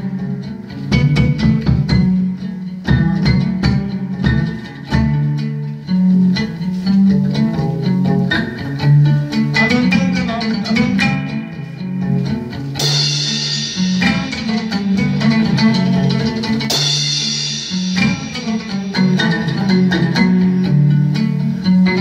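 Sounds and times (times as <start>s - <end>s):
plucked lute playing: 0.0s - 22.0s.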